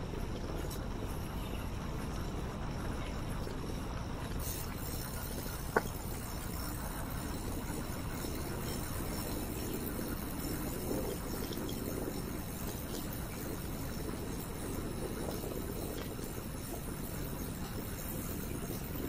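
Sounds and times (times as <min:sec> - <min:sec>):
bicycle rolling on pavement: 0:00.0 - 0:19.0.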